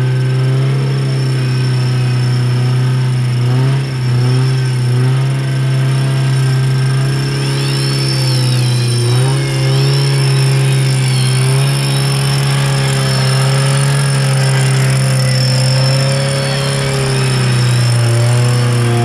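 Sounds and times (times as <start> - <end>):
off-road vehicle engine running: 0.0 - 19.0
faint high wavering tone: 0.2 - 19.0.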